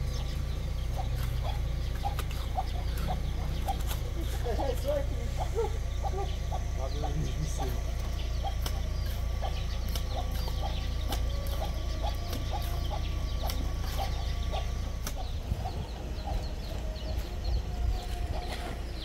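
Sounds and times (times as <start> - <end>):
chickens clucking: 0.0 - 19.0
high chirping: 0.0 - 19.0
steady low rumble: 0.0 - 19.0.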